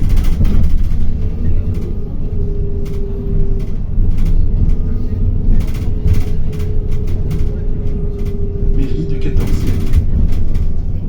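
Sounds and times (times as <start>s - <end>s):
bus engine rumble: 0.0s - 11.0s
bus whine: 0.0s - 11.0s
rattles and knocks from bus body: 0.0s - 11.0s.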